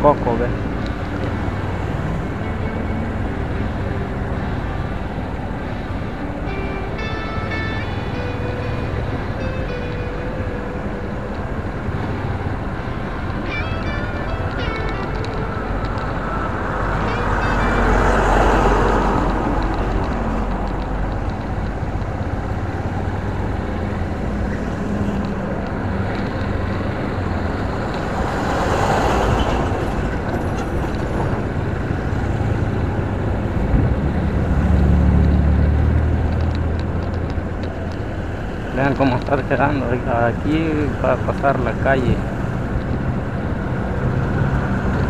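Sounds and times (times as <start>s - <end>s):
deep engine drone: 0.0s - 45.0s
wind and road noise: 0.0s - 45.0s.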